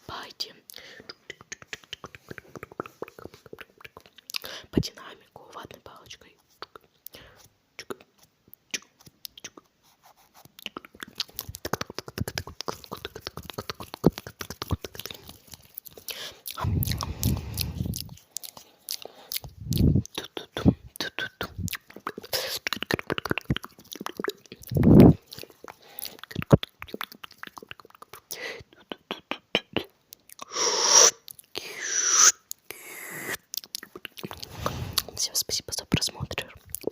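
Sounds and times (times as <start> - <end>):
mouth clicks and smacks: 0.2 - 36.9.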